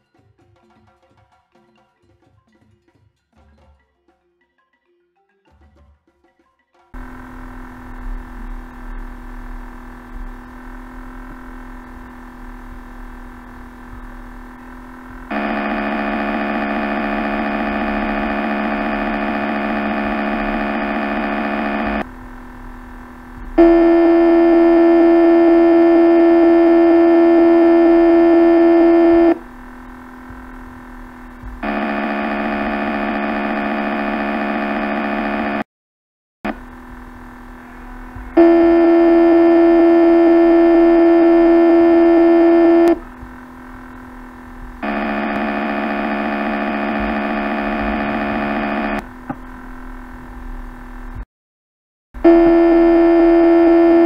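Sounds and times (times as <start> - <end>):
synthetic motor hum: 7.0 - 35.6, 36.5 - 51.2, 52.2 - 54.0.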